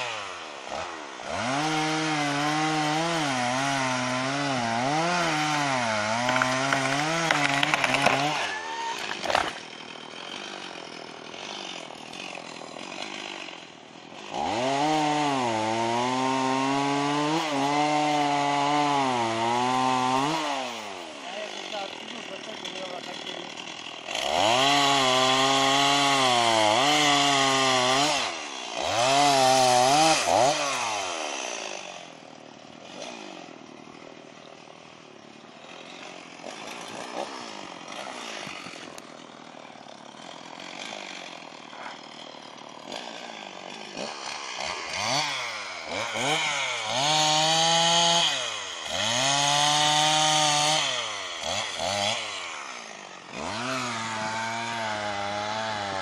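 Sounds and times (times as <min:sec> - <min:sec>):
chainsaw revving and cutting: 0:00.0 - 0:56.0.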